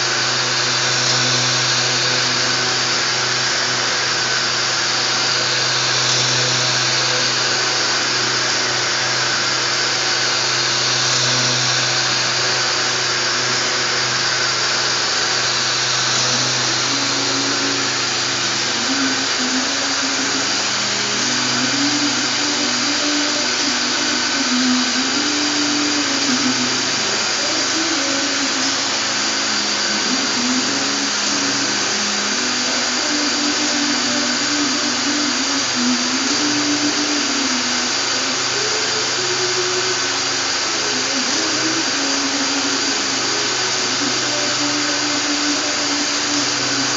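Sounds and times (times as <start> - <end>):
sanding machine running: 0.0 - 46.9.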